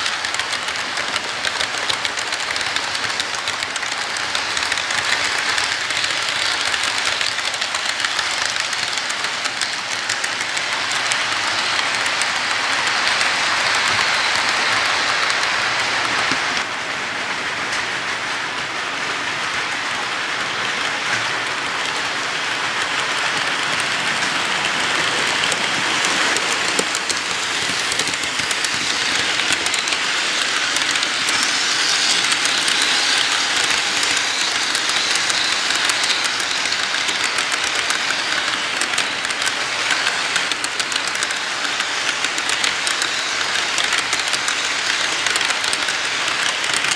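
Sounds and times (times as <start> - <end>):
model train wheels rattling on rails: 0.0 - 16.7, 17.6 - 46.9.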